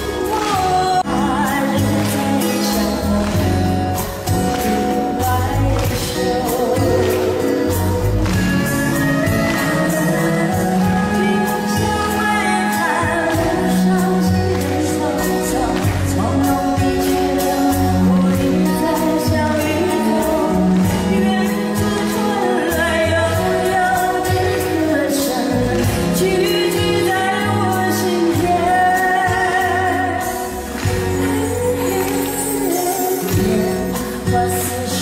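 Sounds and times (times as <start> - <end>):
instrumental accompaniment: 0.0 - 35.0
woman singing pop ballad: 0.0 - 35.0.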